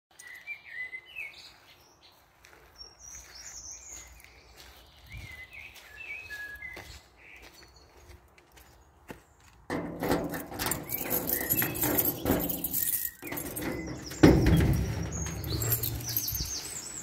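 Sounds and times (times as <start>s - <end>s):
small birds chirping: 0.1s - 9.7s, 10.7s - 17.0s.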